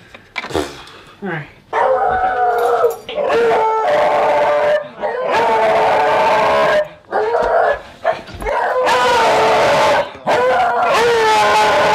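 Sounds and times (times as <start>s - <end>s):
dogs baying: 1.7s - 11.6s.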